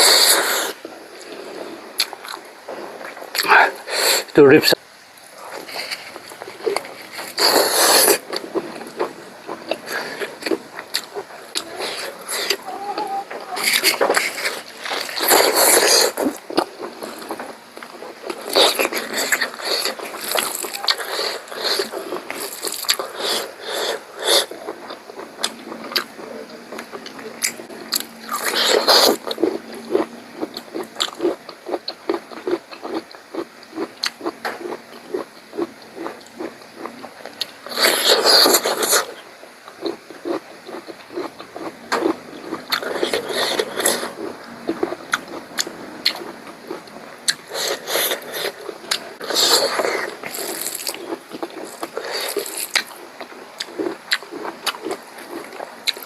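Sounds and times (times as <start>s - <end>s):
chewing and mouth clicks: 2.0s - 3.8s, 5.4s - 56.0s.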